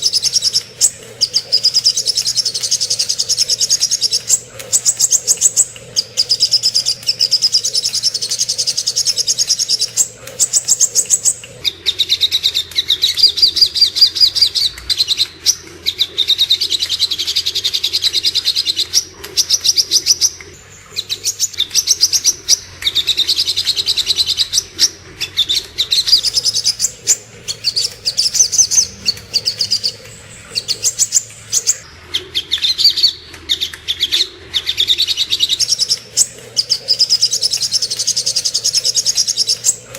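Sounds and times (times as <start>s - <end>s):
bird rapid high chirps: 0.0s - 20.4s, 21.0s - 33.2s, 34.7s - 39.9s.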